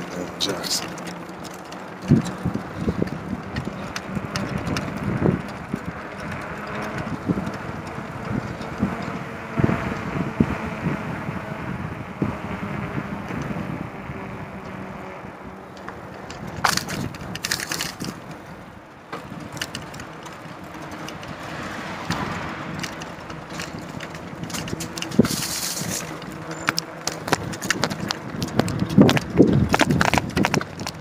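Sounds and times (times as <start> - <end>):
crackling clicks: 0.0 - 10.1, 15.5 - 18.5, 19.1 - 31.0
bicycle rolling and rattling: 0.0 - 31.0.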